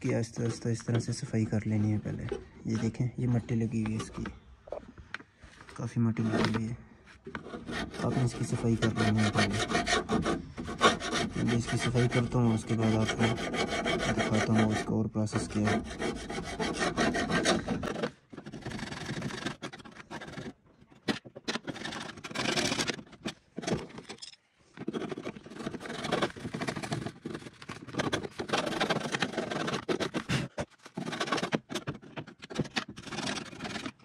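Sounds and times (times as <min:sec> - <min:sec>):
screwdriver scraping dirt: 0:00.0 - 0:04.8, 0:06.2 - 0:34.0.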